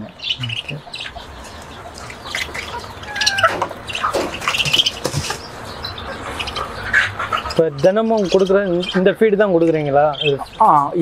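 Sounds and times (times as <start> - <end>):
budgerigars chirping and squawking: 0.0 - 11.0.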